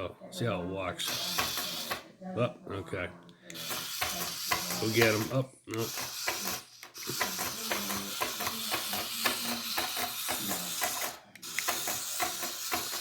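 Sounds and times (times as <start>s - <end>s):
toy robot spider walking: 1.0s - 2.0s, 3.5s - 13.0s.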